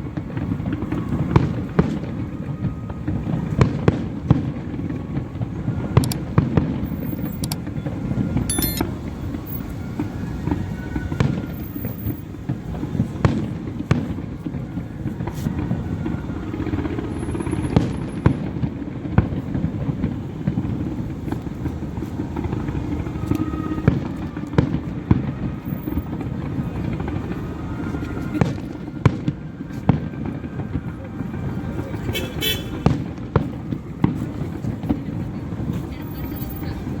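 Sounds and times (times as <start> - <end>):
low rumble of firework bursts: 0.0 - 37.0.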